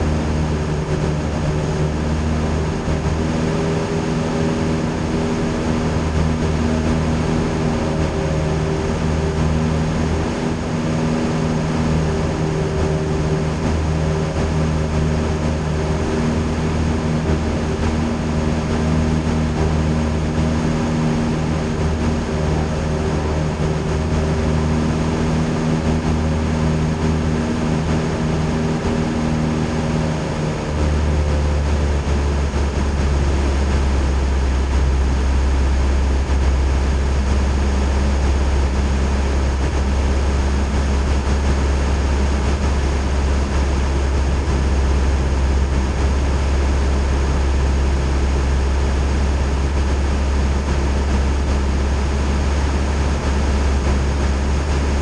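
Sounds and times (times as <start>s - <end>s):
plane engine and propeller droning: 0.0s - 55.0s.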